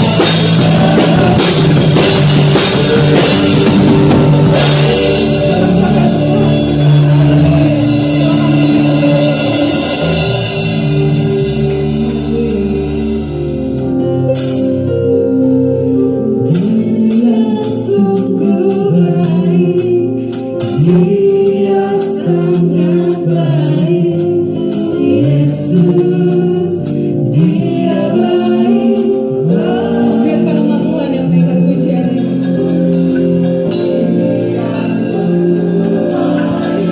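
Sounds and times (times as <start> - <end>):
people singing: 0.0 - 13.5, 16.4 - 36.9
drum kit: 0.0 - 15.4, 16.4 - 36.9
bass guitar: 0.0 - 36.9
electric guitar: 0.0 - 36.9
keyboard: 0.0 - 36.9.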